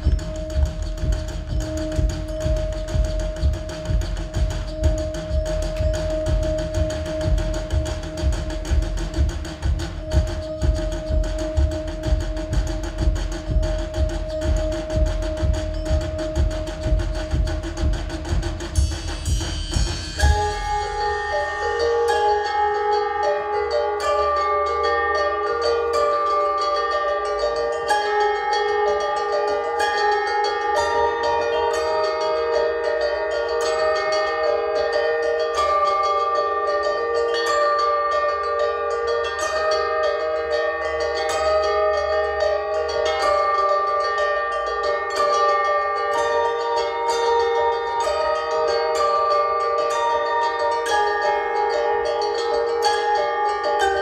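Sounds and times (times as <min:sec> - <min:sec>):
bell-like percussion tones: 0:00.0 - 0:54.0
drumming: 0:00.0 - 0:54.0.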